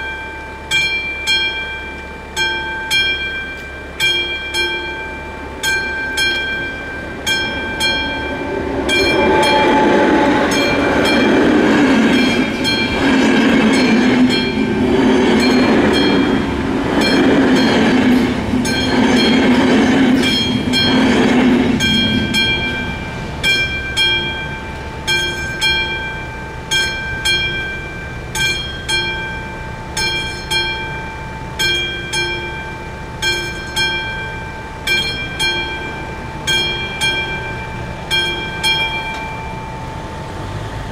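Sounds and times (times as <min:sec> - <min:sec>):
level crossing bell ringing: 0:00.0 - 0:21.1, 0:21.8 - 0:40.1
passenger train passing: 0:00.0 - 0:40.9.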